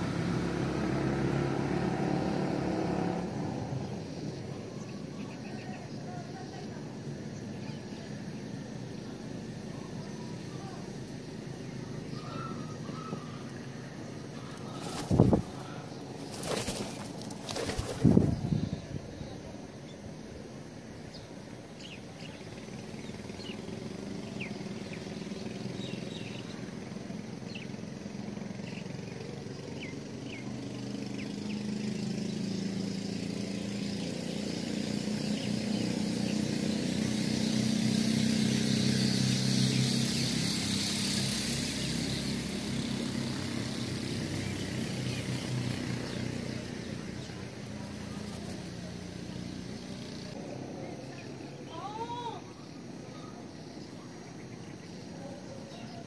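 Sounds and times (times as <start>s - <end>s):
vehicle engine passing by: 0.0s - 19.2s, 21.4s - 51.6s
small birds chirping: 0.0s - 56.0s.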